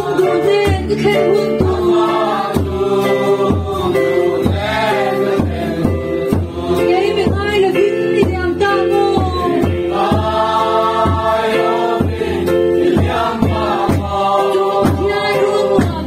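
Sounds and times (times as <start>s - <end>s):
group singing a hymn: 0.0s - 16.0s
steady low drum beat: 0.0s - 16.0s.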